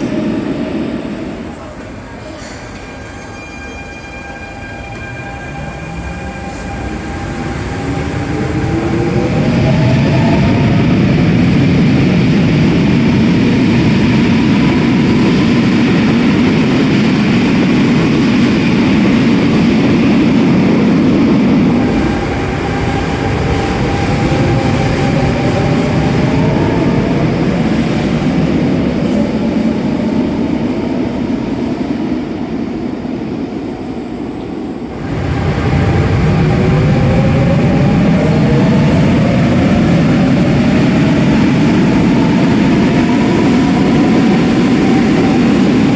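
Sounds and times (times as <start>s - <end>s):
train wheels rumbling on rails: 4.6s - 45.9s.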